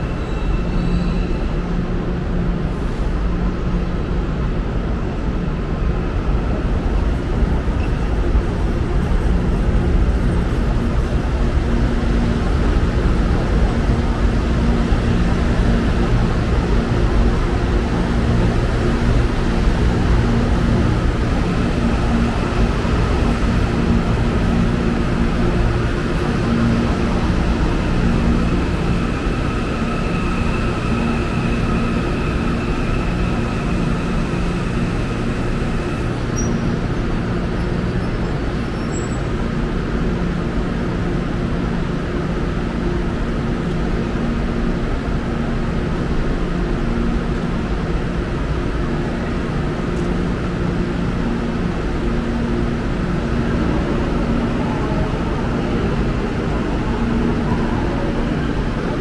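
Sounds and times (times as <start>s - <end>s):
electric train rumble and hum: 0.0s - 59.0s.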